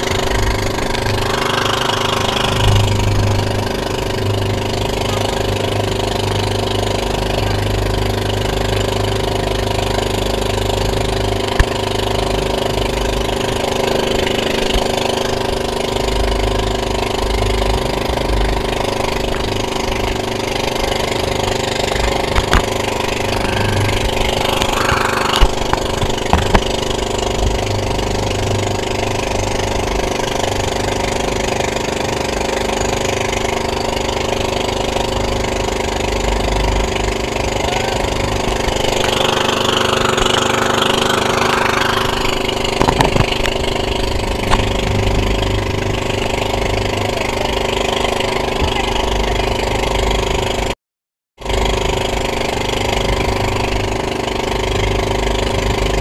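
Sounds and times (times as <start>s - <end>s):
boat engine running: 0.0s - 50.8s, 51.4s - 56.0s
water splashing along hull: 0.0s - 50.8s, 51.4s - 56.0s.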